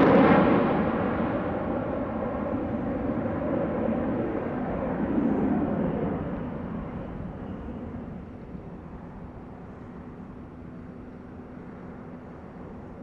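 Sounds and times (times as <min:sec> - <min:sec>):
jet engine roar in flight: 0:00.0 - 0:13.0.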